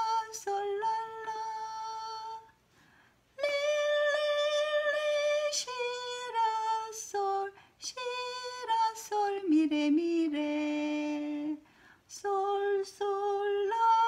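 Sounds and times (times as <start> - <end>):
woman singing long held notes: 0.0 - 2.6, 3.4 - 14.0.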